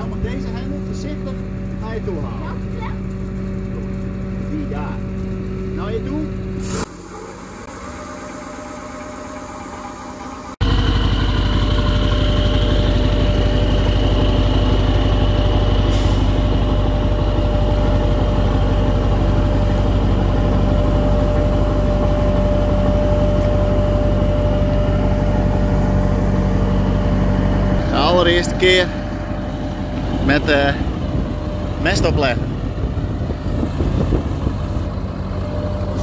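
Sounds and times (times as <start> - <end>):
steady whine: 0.0 - 36.0
truck engine droning: 0.0 - 36.0.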